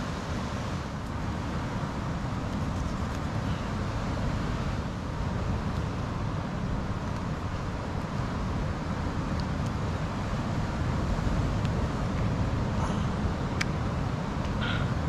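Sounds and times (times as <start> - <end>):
ocean surf: 0.0 - 15.0.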